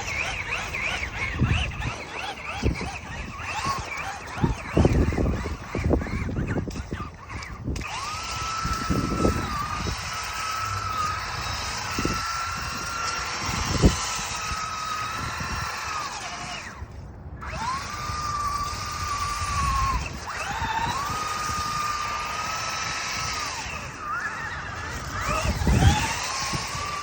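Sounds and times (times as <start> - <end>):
electric toy car motor whining: 0.0 - 27.0.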